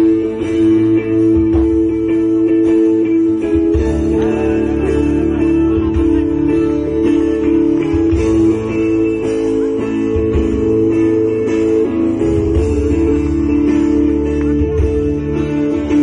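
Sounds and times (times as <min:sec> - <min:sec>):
plucked guitar strings: 0:00.0 - 0:16.0
pulsing low bass line: 0:00.0 - 0:16.0.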